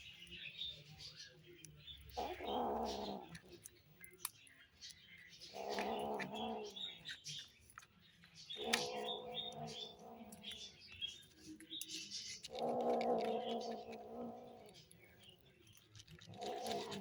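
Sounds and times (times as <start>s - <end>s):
kittens eating clicks: 0.1s - 17.0s.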